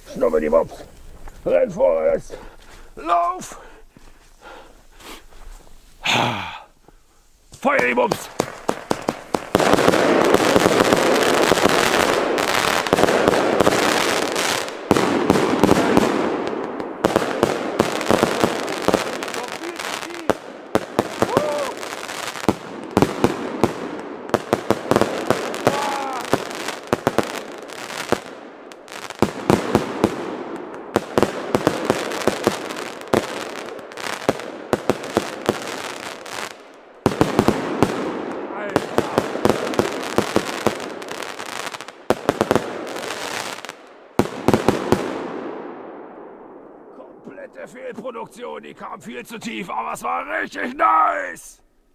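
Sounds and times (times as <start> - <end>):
fireworks crackling: 0.0 - 6.1, 6.8 - 46.3.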